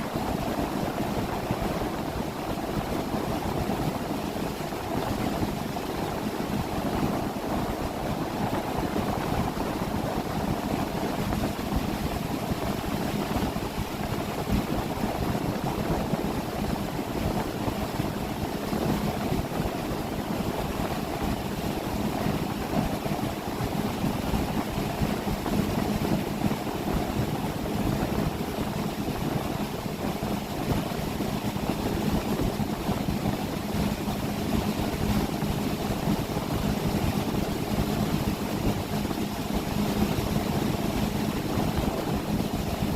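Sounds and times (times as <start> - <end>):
motorboat engine humming: 0.0 - 42.9
wind: 0.0 - 42.9.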